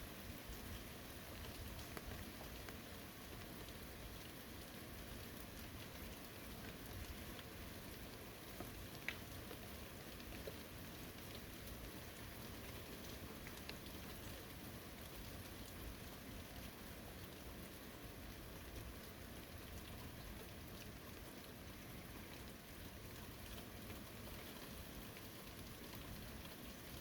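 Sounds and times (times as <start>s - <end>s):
light rain patter: 0.0s - 27.0s.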